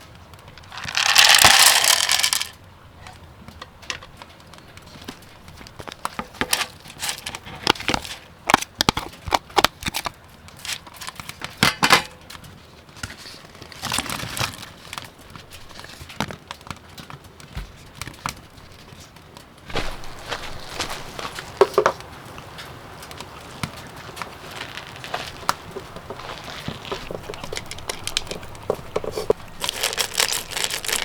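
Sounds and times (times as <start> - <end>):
rustling: 0.4 - 3.2, 4.0 - 11.5, 12.6 - 16.3, 19.7 - 31.0.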